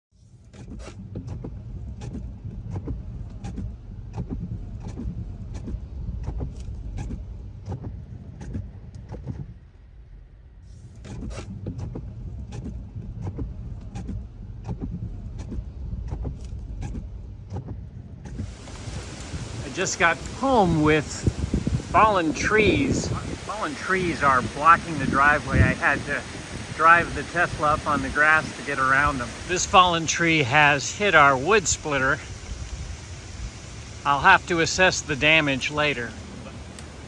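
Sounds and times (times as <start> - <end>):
car tyres rumbling: 0.1 - 37.0.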